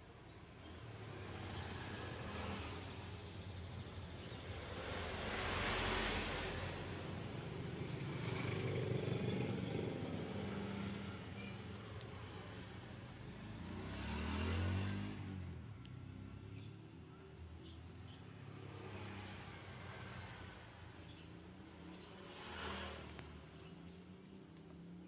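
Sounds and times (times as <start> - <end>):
vehicle passing by: 0.9 - 24.0.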